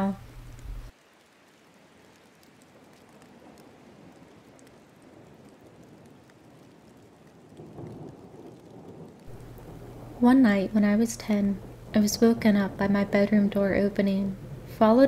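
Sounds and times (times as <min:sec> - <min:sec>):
steady rain falling: 0:00.0 - 0:15.0
low rumble of thunder: 0:01.6 - 0:15.0.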